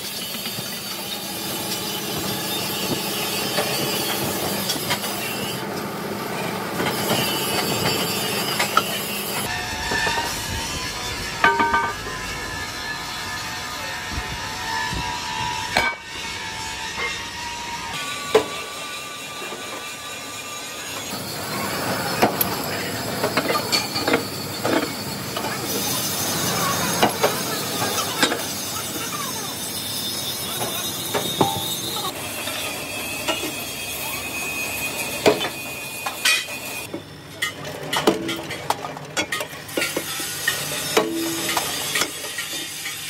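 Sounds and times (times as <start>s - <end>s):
steady noisy background: 0.0s - 43.0s.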